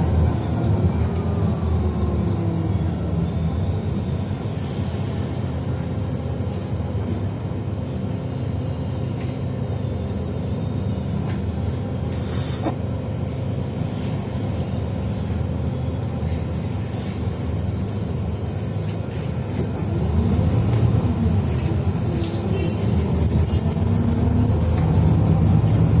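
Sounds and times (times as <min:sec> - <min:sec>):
vehicle interior rumble: 0:00.0 - 0:26.0.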